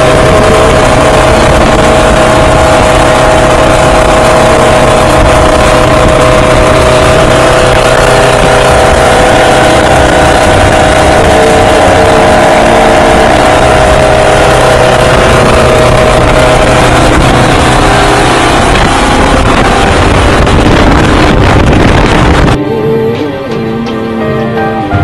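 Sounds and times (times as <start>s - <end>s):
wind buffeting microphone: 0.0s - 22.6s
vehicle engine and road noise: 0.0s - 24.8s.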